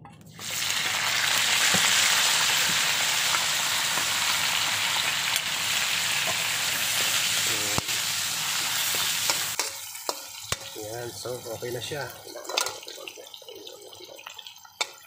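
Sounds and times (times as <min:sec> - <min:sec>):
vegetables sizzling in hot oil: 0:00.3 - 0:15.0.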